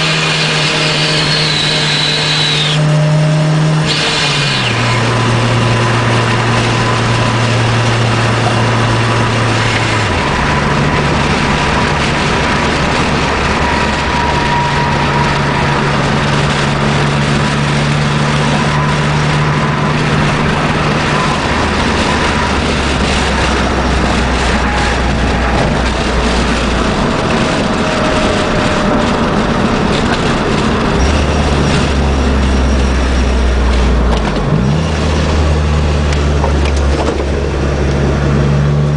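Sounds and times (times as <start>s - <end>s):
car engine and exhaust: 0.0s - 38.9s.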